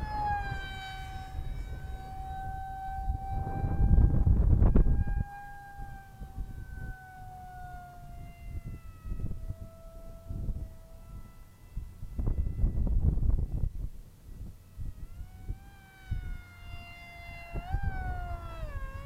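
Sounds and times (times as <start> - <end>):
model jet high whine: 0.0 - 19.0
wind rumble on microphone: 0.0 - 19.0.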